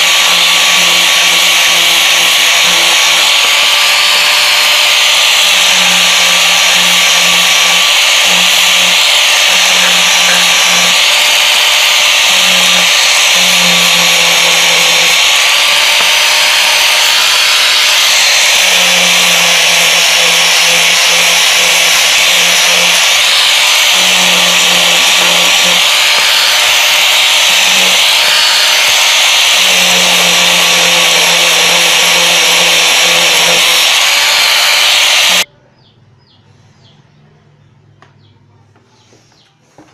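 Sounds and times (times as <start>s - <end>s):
grinder sanding wood: 0.0s - 35.5s.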